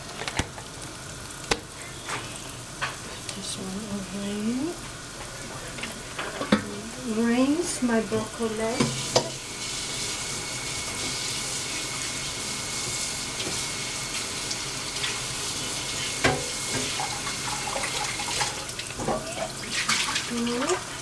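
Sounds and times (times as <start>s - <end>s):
kitchen tap running: 0.0s - 21.0s.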